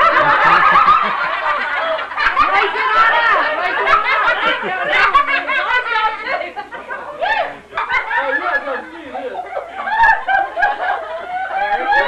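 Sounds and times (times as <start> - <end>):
overlapping chatter: 0.0 - 12.0
people laughing: 0.0 - 12.0.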